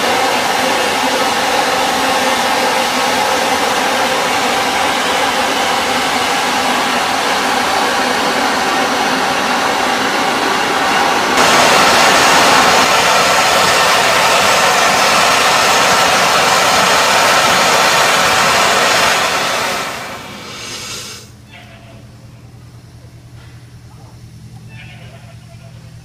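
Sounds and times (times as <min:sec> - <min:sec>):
steam locomotive hissing: 0:00.0 - 0:21.4.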